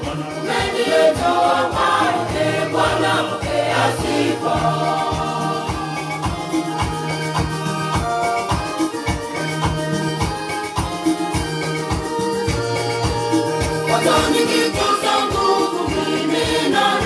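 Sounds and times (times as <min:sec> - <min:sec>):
electronic keyboard gospel dance music: 0:00.0 - 0:17.0.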